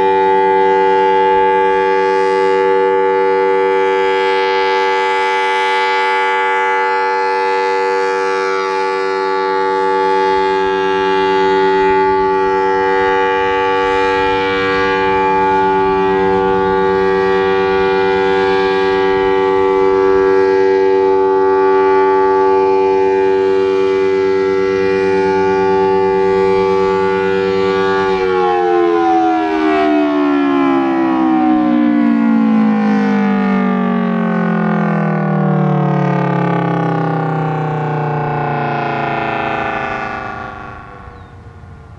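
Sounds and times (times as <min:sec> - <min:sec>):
warning siren: 0:00.0 - 0:41.9.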